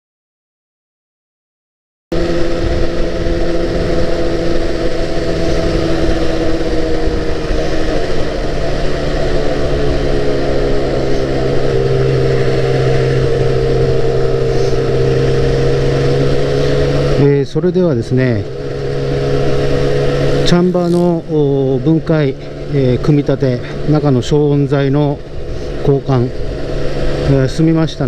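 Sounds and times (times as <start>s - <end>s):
two-stroke motorcycle engine running: 2.1s - 28.0s.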